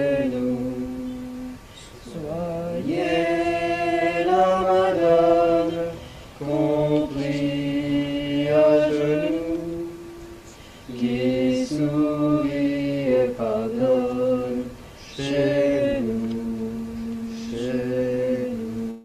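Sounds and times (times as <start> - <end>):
mantra chanting: 0.0 - 19.0.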